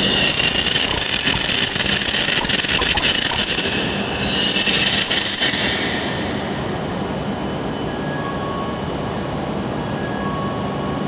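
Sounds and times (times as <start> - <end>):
high-pitched brake squeal: 0.0 - 6.9, 7.5 - 8.9, 9.8 - 11.0
train braking: 0.0 - 11.0.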